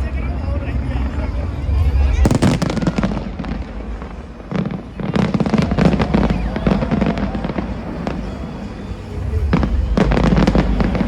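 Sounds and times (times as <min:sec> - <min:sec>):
low rumble: 0:00.0 - 0:11.0
fireworks bangs and crackling: 0:00.2 - 0:11.0.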